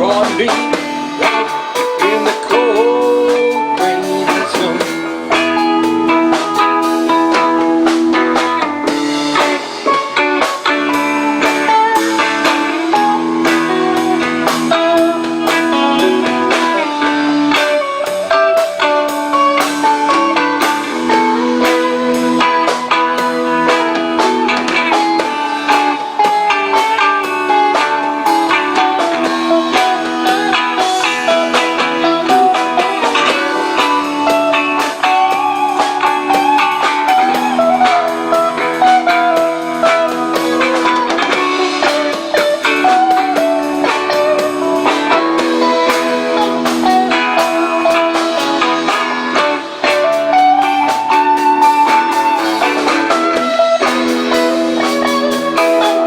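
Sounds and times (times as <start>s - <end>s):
lead guitar with bent notes: 0.0s - 56.0s
steady drum beat: 0.0s - 56.0s
sustained guitar chords: 0.0s - 56.0s.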